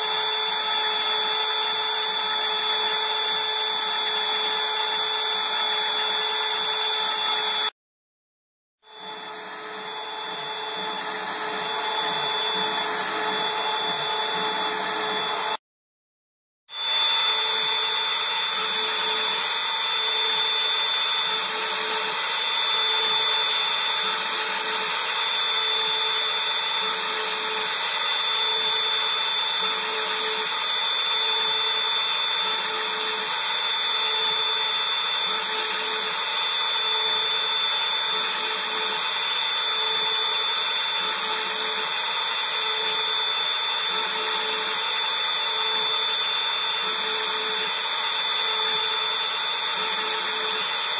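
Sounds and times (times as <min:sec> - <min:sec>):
router spindle high-pitched whine: 0:00.0 - 0:07.8, 0:08.8 - 0:15.6, 0:16.7 - 0:50.9.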